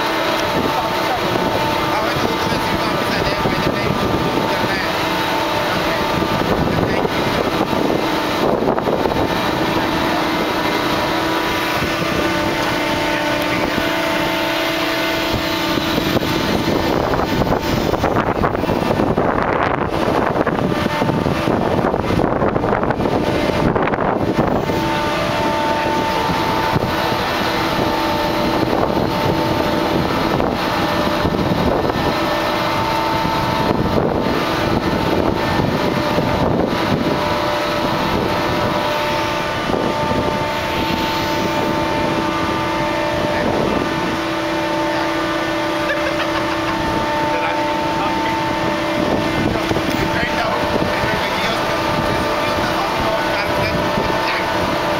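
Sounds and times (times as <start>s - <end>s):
machinery whine and rumble: 0.0s - 54.9s
wind buffeting microphone: 0.0s - 54.9s.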